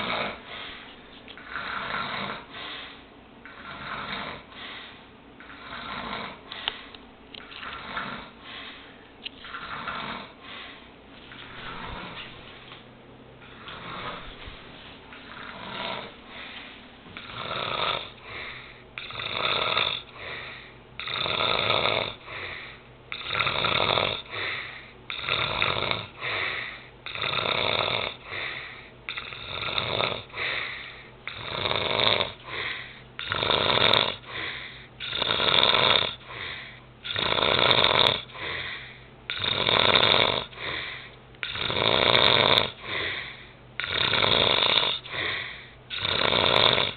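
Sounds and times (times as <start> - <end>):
rhythmic snoring: 0.0 - 12.5, 13.4 - 46.9.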